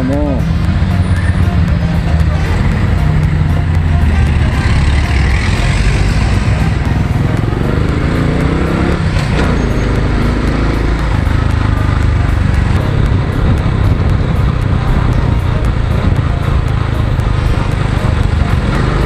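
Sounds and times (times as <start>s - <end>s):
motorcycle engine running: 0.0s - 19.0s
vehicle passing close: 0.0s - 19.0s.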